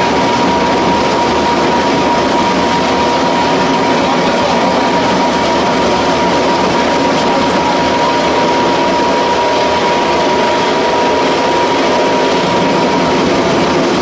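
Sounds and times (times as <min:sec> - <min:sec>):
high machine whine: 0:00.0 - 0:14.0
pellet mill machine running: 0:00.0 - 0:14.0.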